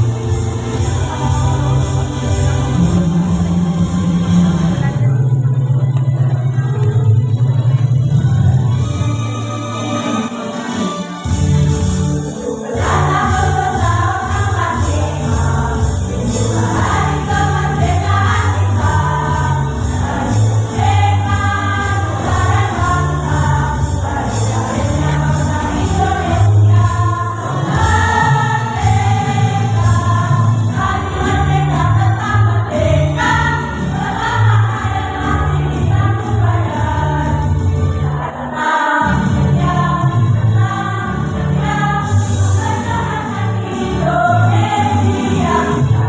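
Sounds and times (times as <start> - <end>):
women's choir singing in unison: 0.0 - 3.4, 11.9 - 46.0
instrumental accompaniment with bass: 0.0 - 46.0.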